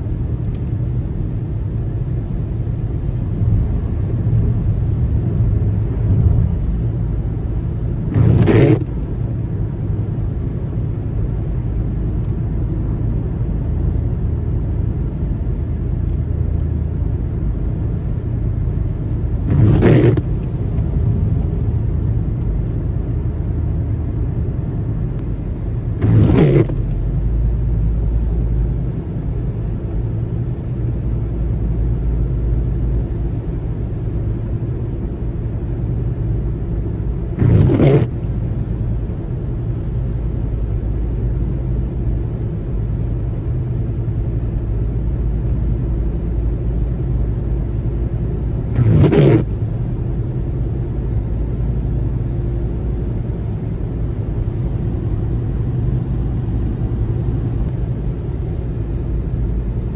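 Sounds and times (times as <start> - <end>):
car engine hum: 0.0 - 59.9.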